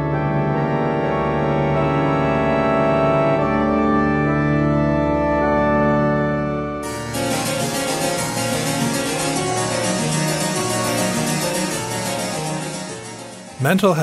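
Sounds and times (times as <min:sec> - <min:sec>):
organ-like chords: 0:00.0 - 0:14.0.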